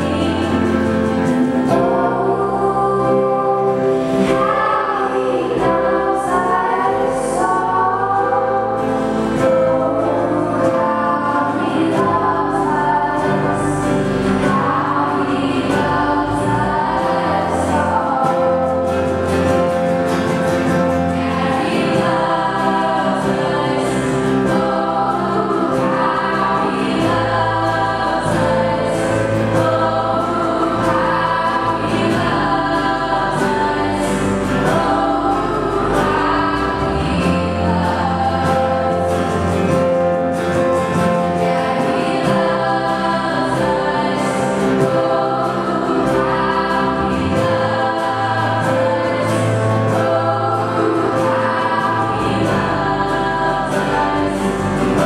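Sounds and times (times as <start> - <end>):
acoustic guitar: 0.0 - 55.0
women singing together: 0.0 - 55.0.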